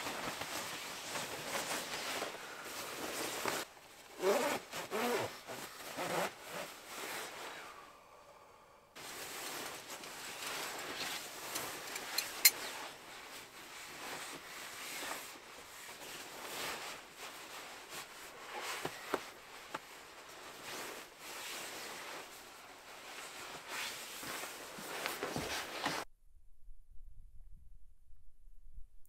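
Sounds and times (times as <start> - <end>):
nylon sleeping bag rustling: 0.0 - 7.8, 9.0 - 26.1.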